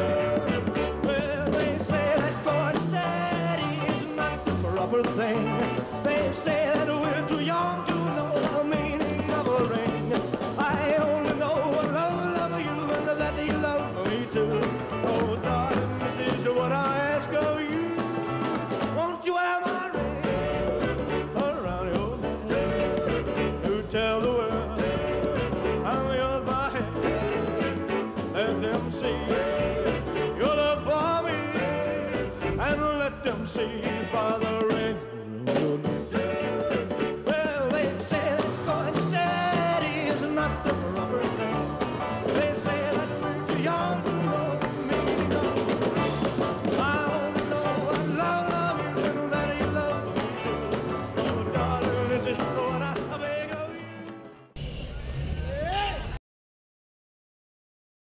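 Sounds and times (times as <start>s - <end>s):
rock and roll music with singing: 0.0s - 54.6s.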